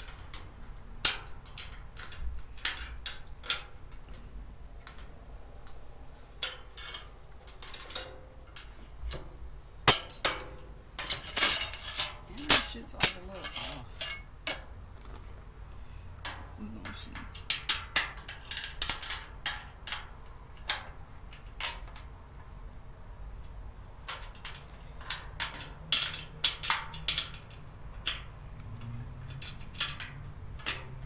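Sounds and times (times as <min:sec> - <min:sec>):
cart parts clicking and clinking: 0:00.0 - 0:05.8, 0:06.4 - 0:15.4, 0:16.2 - 0:22.2, 0:23.4 - 0:31.0.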